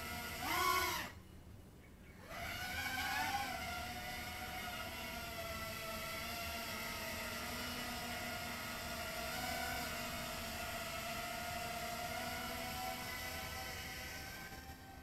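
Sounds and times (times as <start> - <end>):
drone motors whining: 0.0 - 1.2, 2.2 - 15.0.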